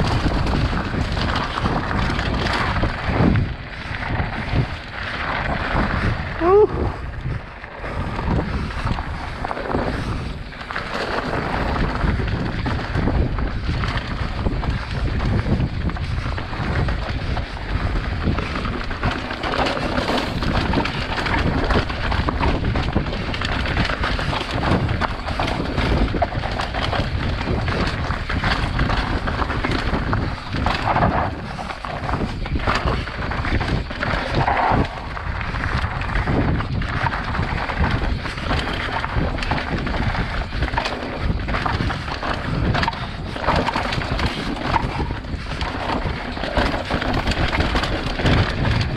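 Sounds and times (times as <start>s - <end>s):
tyres crunching over gravel: 0.0s - 6.4s, 7.0s - 48.9s
bike knocking and rattling: 0.0s - 48.9s
wind rumble on microphone: 0.0s - 48.9s.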